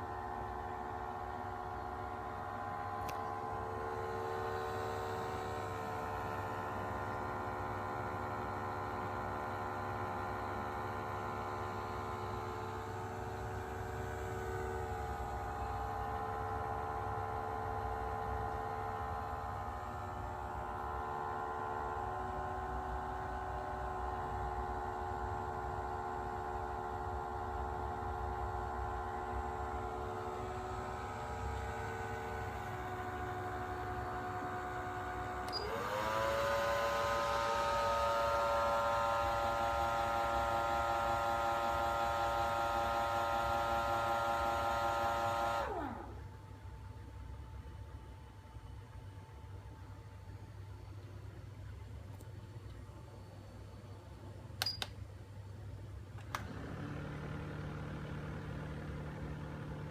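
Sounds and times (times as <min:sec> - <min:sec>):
massager motor whining: 0:00.0 - 0:47.6, 0:55.8 - 0:59.9.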